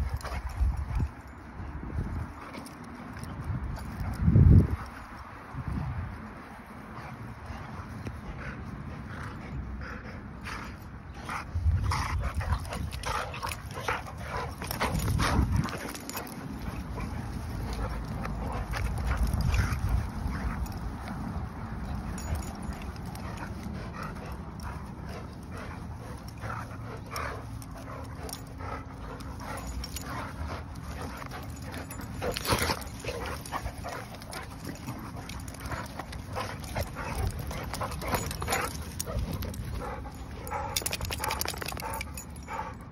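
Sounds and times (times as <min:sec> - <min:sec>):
dogs play-wrestling noises: 0:00.0 - 0:42.9.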